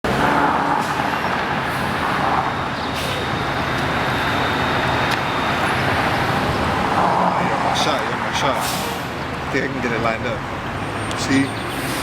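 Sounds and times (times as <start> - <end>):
road traffic rumble and hiss: 0.0 - 12.0.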